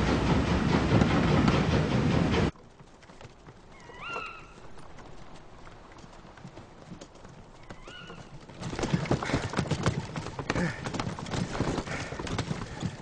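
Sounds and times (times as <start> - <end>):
horse hooves clip-clopping: 2.4 - 13.0.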